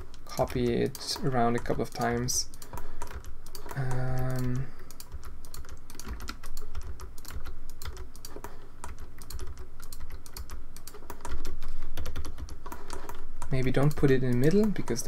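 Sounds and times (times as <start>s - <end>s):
keyboard and mouse clicking: 0.0s - 15.0s.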